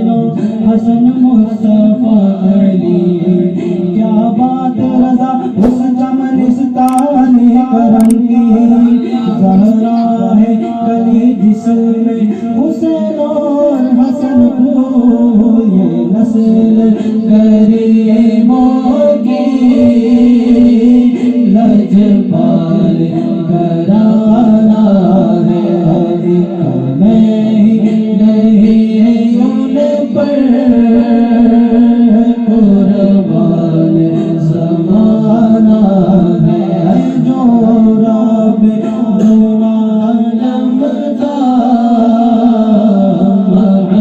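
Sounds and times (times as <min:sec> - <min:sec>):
man chanting devotional song: 0:00.0 - 0:44.0.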